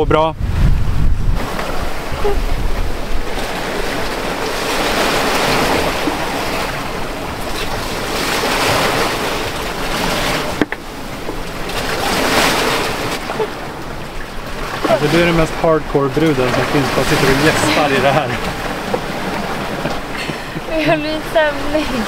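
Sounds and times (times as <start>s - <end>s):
rough sea splashing against hull: 0.0s - 22.0s
wind on microphone: 0.0s - 22.0s.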